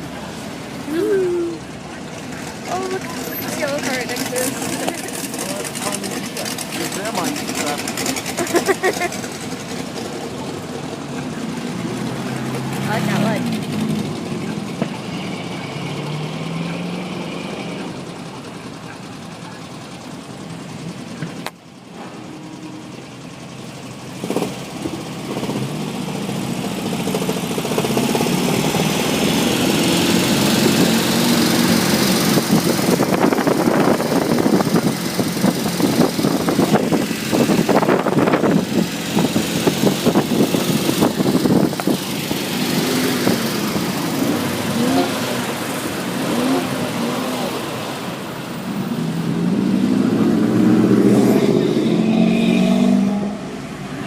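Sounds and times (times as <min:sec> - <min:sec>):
car engine running: 0:00.0 - 0:16.8, 0:17.6 - 0:54.0.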